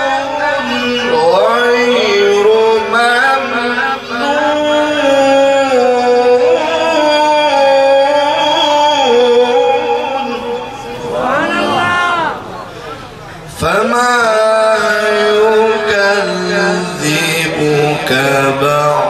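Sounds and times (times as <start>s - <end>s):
man chanting melodically: 0.0s - 12.8s, 13.5s - 19.0s.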